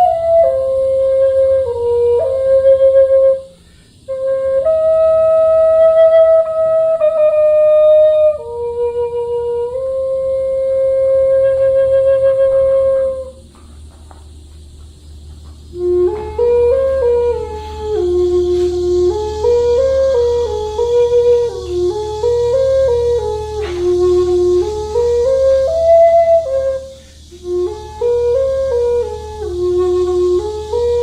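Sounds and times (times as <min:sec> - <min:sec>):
solo flute melody: 0:00.0 - 0:13.6, 0:15.2 - 0:31.0.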